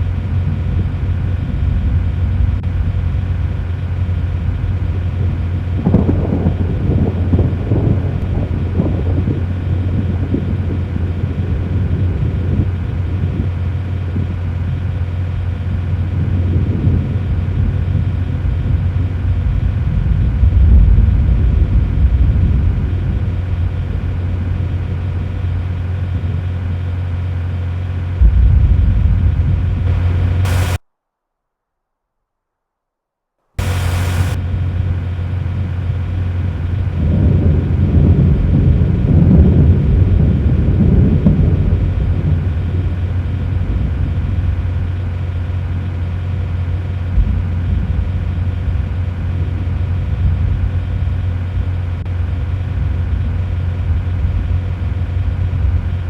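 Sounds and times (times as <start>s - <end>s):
low rumble and hum: 0.0s - 30.8s, 33.6s - 56.0s
rolling rumbles: 0.0s - 30.8s, 33.6s - 56.0s.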